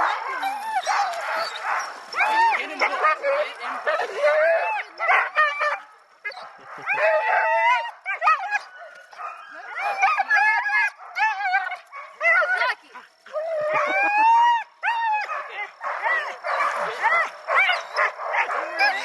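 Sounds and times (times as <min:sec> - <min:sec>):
sled dogs howling and yipping: 0:00.0 - 0:19.0.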